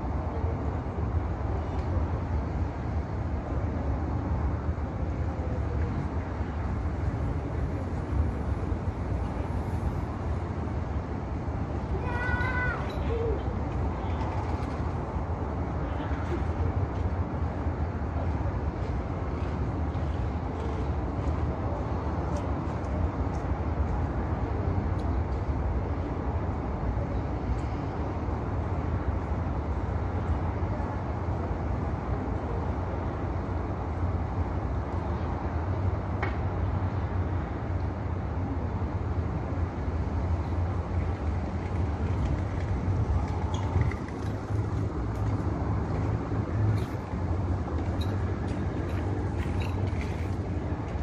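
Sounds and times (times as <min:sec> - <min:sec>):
low outdoor rumble: 0:00.0 - 0:51.0.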